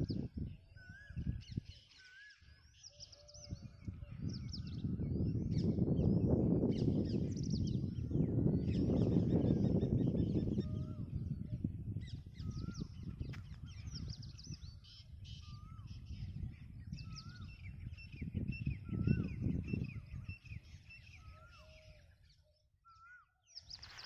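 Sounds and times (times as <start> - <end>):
low rumbling on microphone: 0.0 - 1.6, 3.4 - 22.1.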